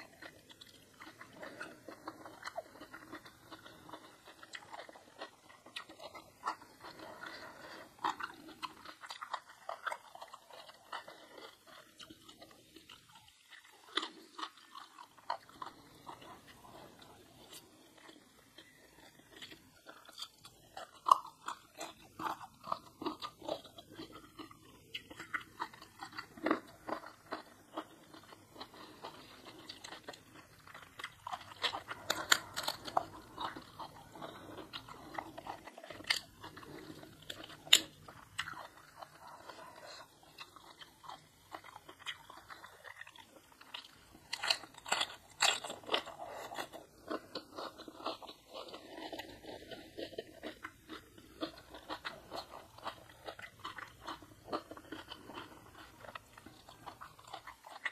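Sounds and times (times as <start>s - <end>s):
chewing and crunching food: 0.0s - 57.9s.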